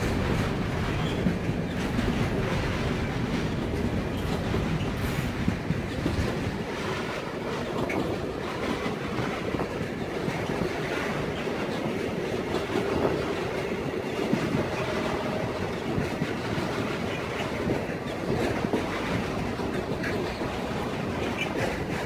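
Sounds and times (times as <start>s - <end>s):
train wheels rumbling on rails: 0.0s - 22.0s
wheels clattering over rail joints: 0.0s - 22.0s.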